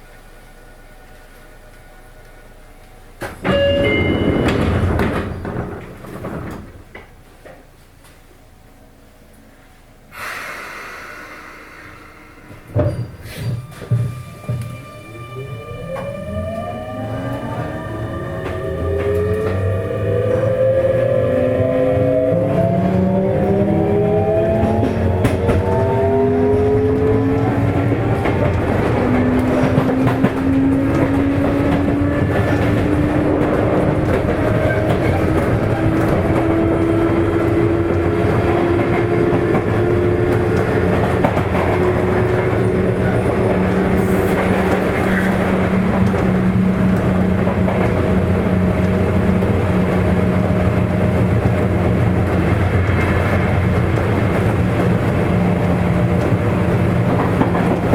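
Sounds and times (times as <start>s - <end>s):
wheel and rail rumble: 0.0s - 57.9s.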